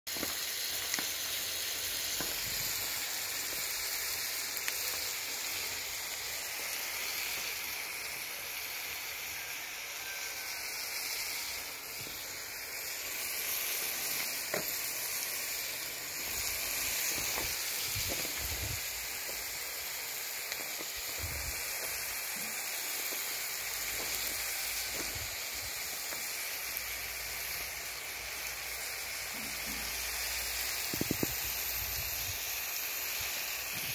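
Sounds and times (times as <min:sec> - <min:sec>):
meat sizzling in a pan: 0:00.1 - 0:33.9.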